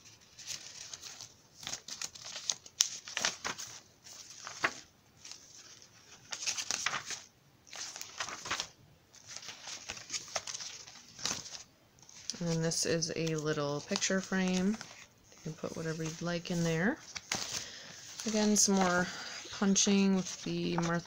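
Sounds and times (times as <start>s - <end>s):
paper pages rustling: 0.0s - 21.0s.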